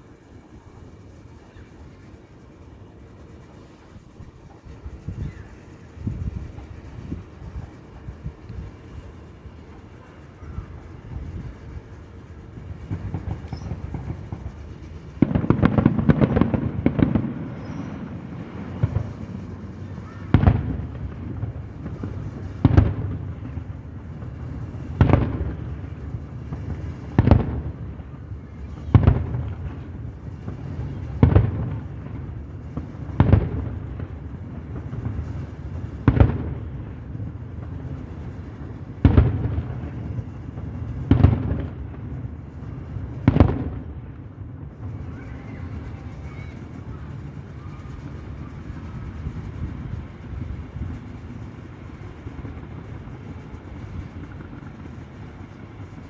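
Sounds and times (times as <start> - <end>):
fireworks booming: 0.0 - 56.0
fireworks crackling: 0.0 - 56.0.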